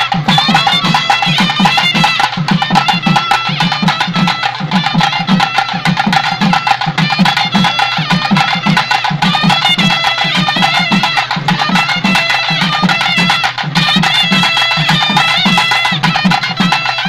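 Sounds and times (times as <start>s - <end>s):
barrel drums beating: 0.0s - 17.0s
reed pipe melody: 0.0s - 17.0s.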